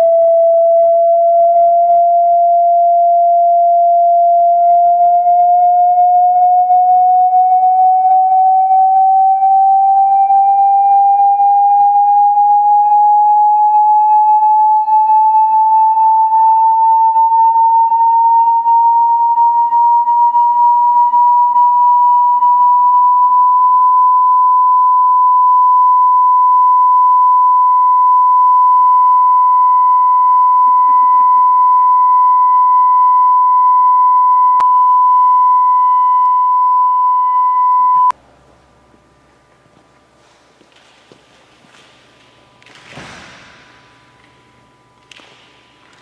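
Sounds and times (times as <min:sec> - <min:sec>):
sine wave test tone: 0:00.0 - 0:38.2, 0:41.7 - 0:46.0.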